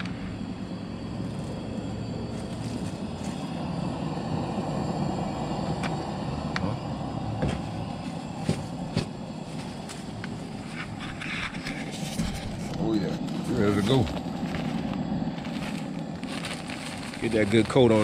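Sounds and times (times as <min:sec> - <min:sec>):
gas stove burner rushing: 0:00.0 - 0:18.0.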